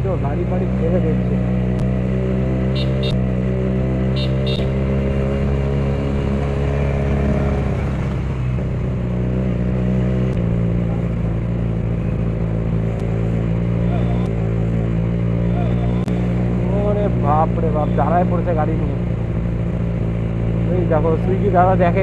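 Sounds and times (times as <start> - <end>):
motorcycle engine running loudly: 0.0 - 22.0.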